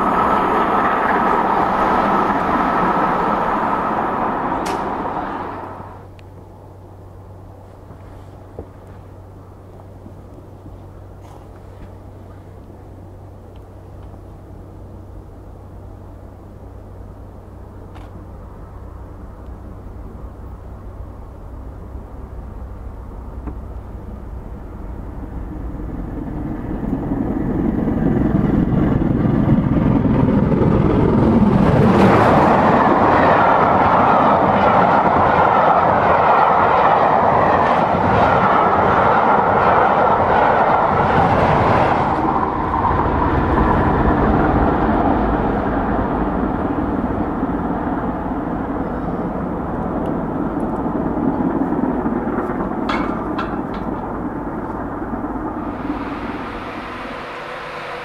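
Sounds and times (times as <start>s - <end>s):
steam train passing: 0.0s - 58.0s.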